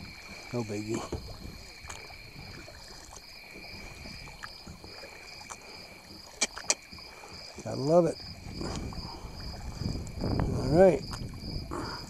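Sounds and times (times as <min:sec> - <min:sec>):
wind rumble on microphone: 0:00.0 - 0:05.0, 0:06.9 - 0:12.0
kayak paddle strokes: 0:00.0 - 0:12.0
water lapping against hull: 0:00.0 - 0:12.0.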